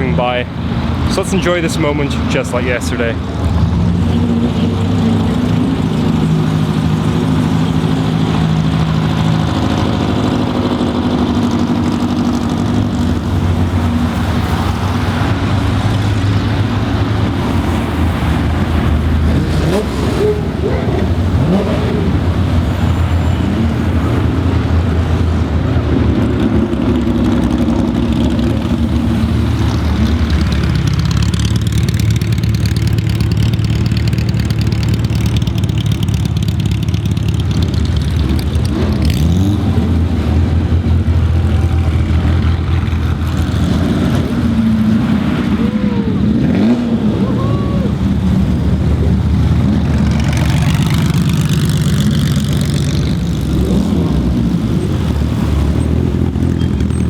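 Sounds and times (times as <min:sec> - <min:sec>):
car engines idling and revving: 0:00.0 - 0:57.0.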